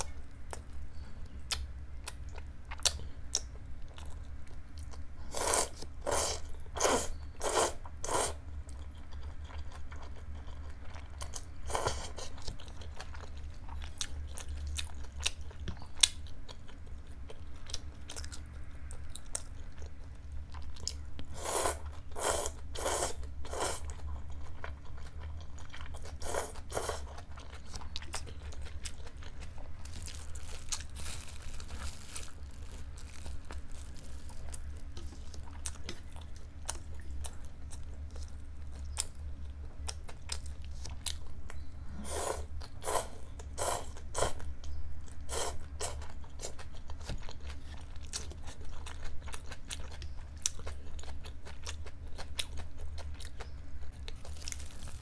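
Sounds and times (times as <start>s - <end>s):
crunchy chewing: 0.0s - 55.0s
steady low hum: 0.0s - 55.0s.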